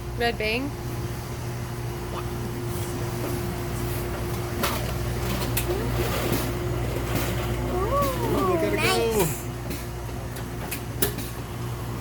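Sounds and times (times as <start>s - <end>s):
low electrical hum of machinery: 0.0s - 12.0s.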